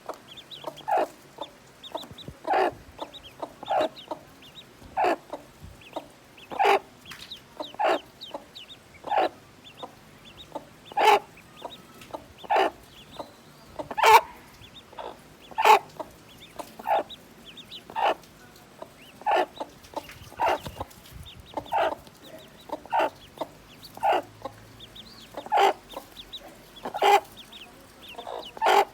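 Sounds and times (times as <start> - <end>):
hen clucking: 0.0 - 28.9
high peeps of ducklings: 0.0 - 28.9.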